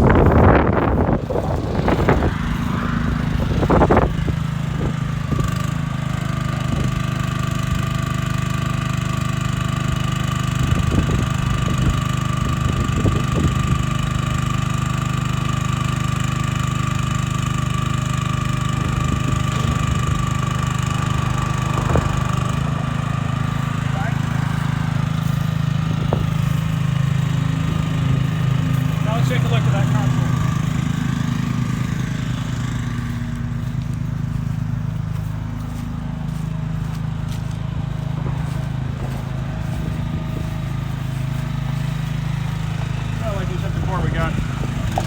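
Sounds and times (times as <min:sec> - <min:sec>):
hydraulic pump whine: 0:00.0 - 0:45.0
small gasoline engine running: 0:00.0 - 0:45.0.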